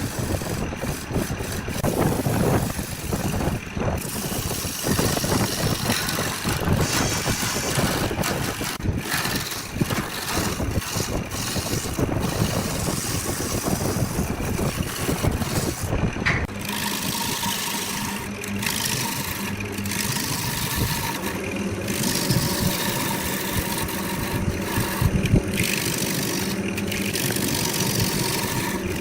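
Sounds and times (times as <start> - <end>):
wood lathe tool scraping: 0.0 - 29.0.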